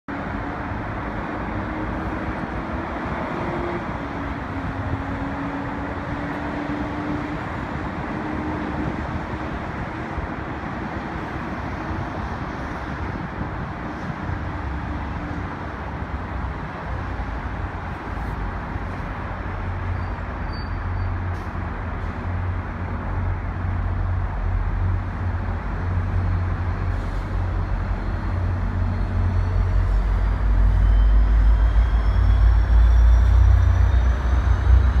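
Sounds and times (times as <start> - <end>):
outdoor vehicle noise: 0.1 - 35.0.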